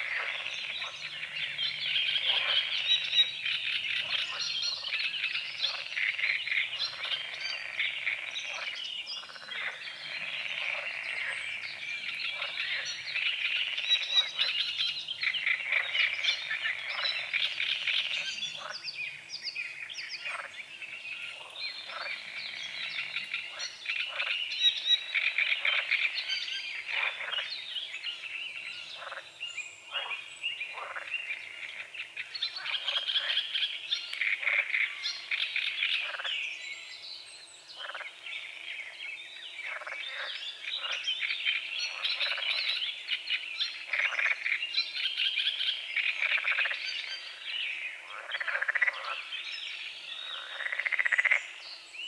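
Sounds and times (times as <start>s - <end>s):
frogs croaking: 0.0s - 36.6s, 37.8s - 51.8s
birds singing and chirping: 0.0s - 52.0s.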